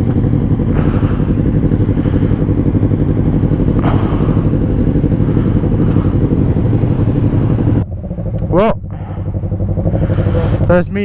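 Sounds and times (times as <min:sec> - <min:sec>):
motorbike engine idling: 0:00.0 - 0:11.0.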